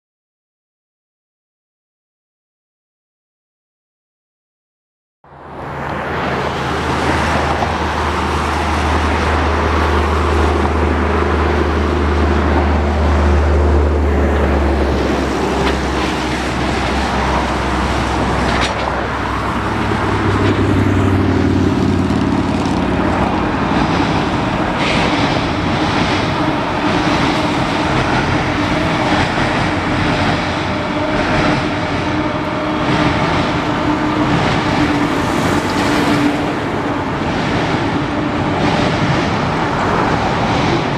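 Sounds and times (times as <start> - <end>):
freight cars rumbling: 5.2 - 40.9
locomotive engines droning: 5.3 - 40.9.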